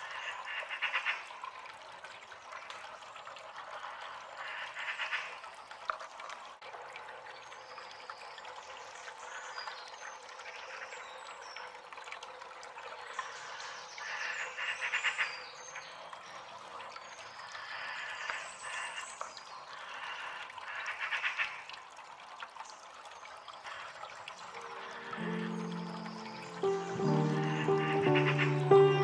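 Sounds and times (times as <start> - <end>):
water trickling into aquarium: 0.0 - 29.0.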